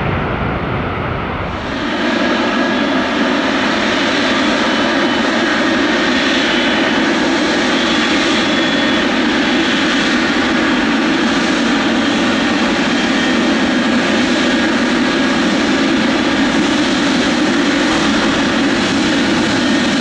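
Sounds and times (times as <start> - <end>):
jet engines running while taxiing: 0.0 - 20.0.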